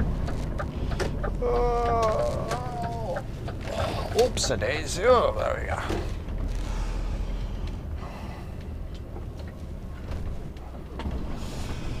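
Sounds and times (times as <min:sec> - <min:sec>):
lorry diesel engine rumbling: 0:00.0 - 0:12.0.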